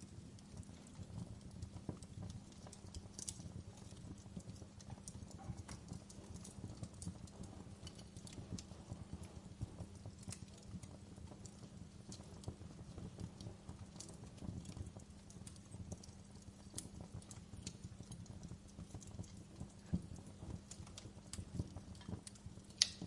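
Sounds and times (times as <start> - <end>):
fire crackling and popping: 0.0 - 23.0
wood fire rumbling: 0.0 - 23.0.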